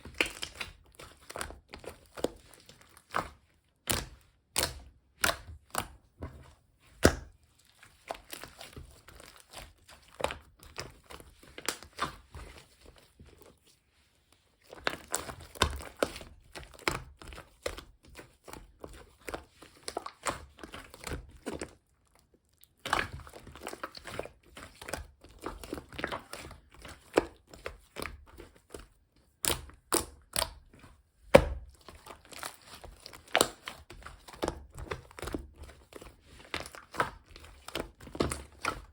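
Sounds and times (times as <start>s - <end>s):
slime squishing and crackling: 0.0s - 6.1s, 7.0s - 13.7s, 14.6s - 38.9s.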